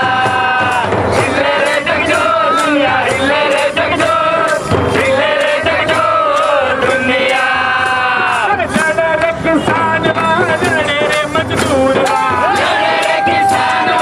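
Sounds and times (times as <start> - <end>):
steady beat: 0.0 - 14.0
voices singing together: 0.0 - 14.0.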